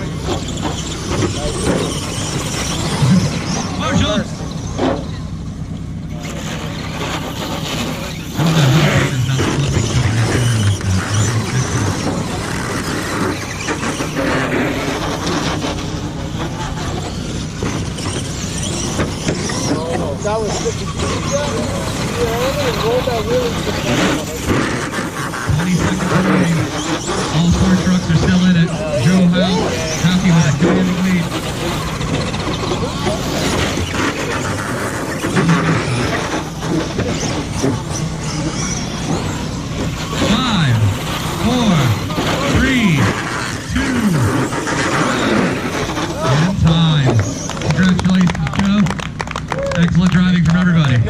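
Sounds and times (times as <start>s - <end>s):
noisy background: 0.0s - 51.0s
rc trucks motors and tyres: 0.0s - 51.0s.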